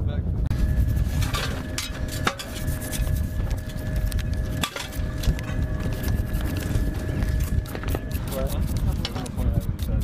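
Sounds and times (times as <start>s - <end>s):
faint steady whine: 0.5s - 9.6s.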